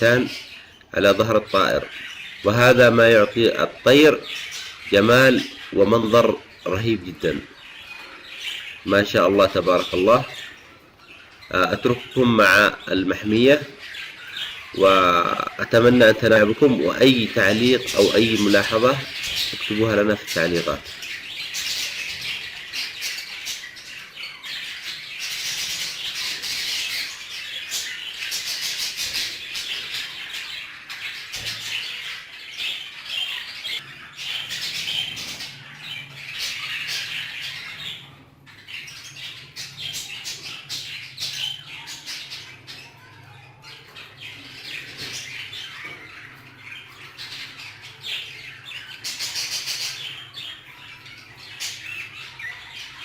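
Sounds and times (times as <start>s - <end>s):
flock of budgerigars chattering: 0.0s - 53.0s.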